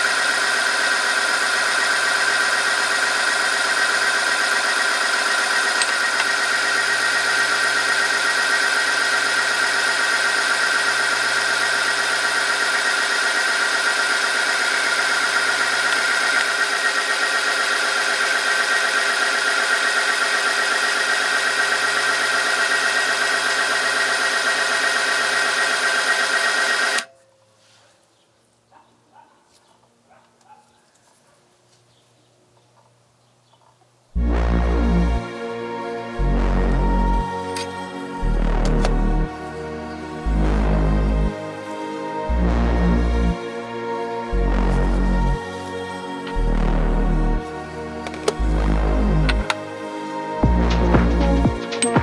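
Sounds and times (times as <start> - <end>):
test machine rubbing whine: 0.0 - 27.1, 34.2 - 52.0.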